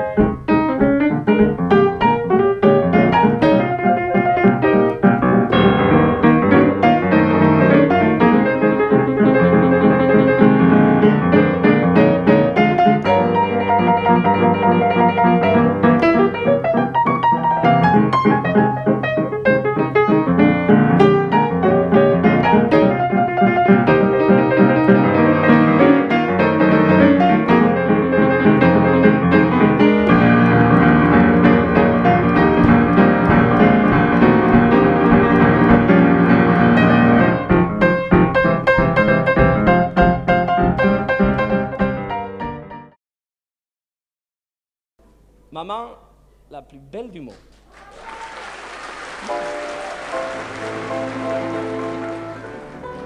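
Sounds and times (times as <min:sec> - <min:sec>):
piano music: 0:00.0 - 0:43.0, 0:48.8 - 0:53.0.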